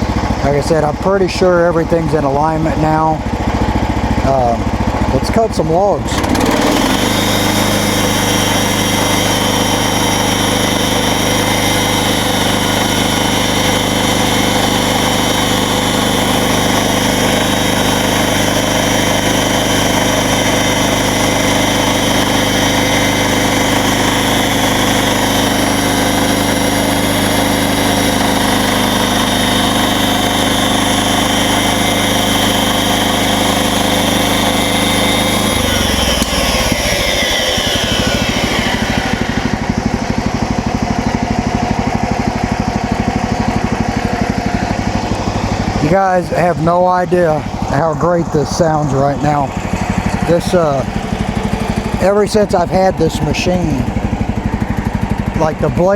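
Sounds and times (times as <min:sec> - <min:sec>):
band blade running: 0:00.0 - 0:55.9
sawmill engine running: 0:00.0 - 0:55.9.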